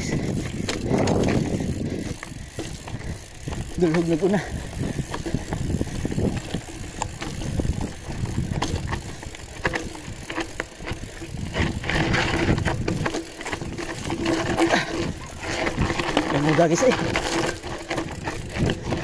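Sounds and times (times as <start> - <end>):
bicycle clicks and rattles: 0.0 - 19.0
wind buffeting microphone: 0.0 - 19.0.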